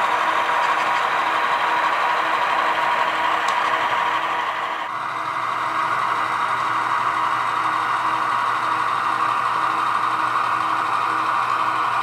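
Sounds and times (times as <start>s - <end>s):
model locomotive diesel engine drone: 0.0s - 12.0s.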